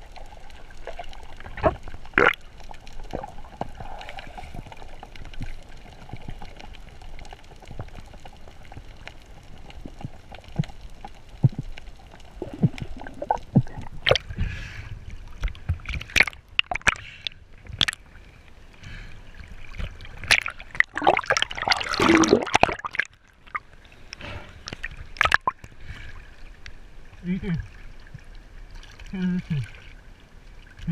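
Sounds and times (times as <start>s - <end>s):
water splashing and gurgling: 0.0s - 30.9s.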